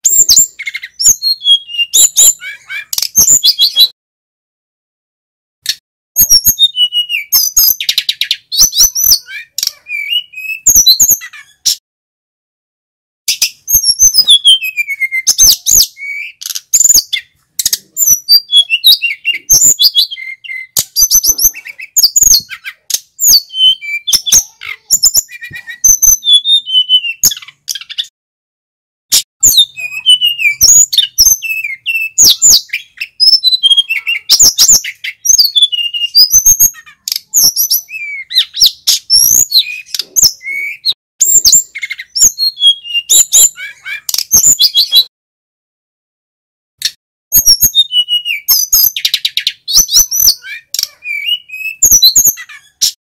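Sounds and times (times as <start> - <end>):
bird singing whistled trills: 0.0 - 3.9, 6.2 - 11.2, 13.3 - 28.1, 29.4 - 45.1, 47.3 - 52.9.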